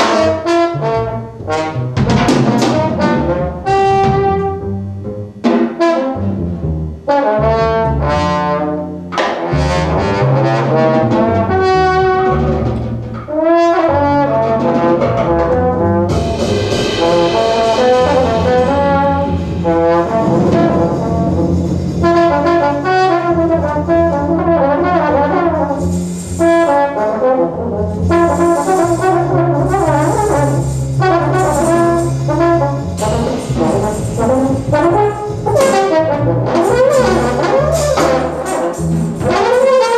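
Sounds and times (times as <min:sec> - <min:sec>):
drum kit: 0:00.0 - 0:39.9
trombone playing melodic lines: 0:00.0 - 0:39.9
upright double bass: 0:00.0 - 0:39.9.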